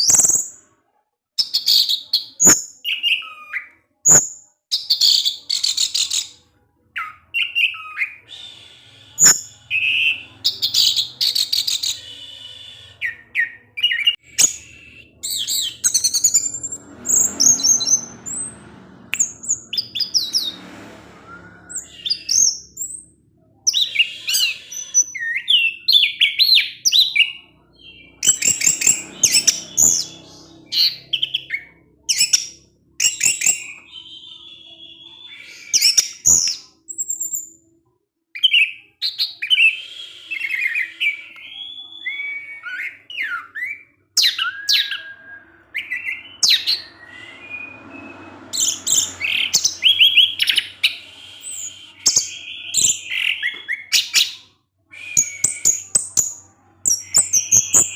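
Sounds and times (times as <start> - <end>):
thrush singing chirps and trills: 1.4 - 37.7, 38.5 - 57.9.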